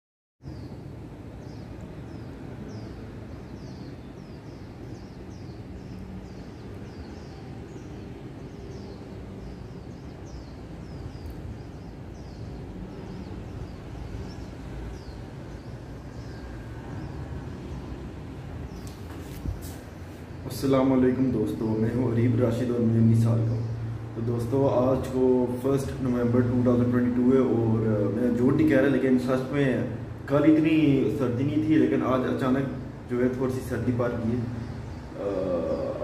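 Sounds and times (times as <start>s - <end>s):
birds chirping: 0.4s - 36.0s.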